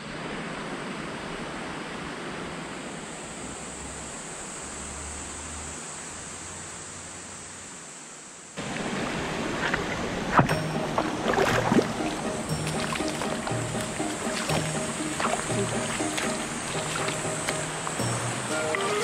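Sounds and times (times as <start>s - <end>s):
shallow river rushing: 0.0s - 6.3s, 8.6s - 19.0s.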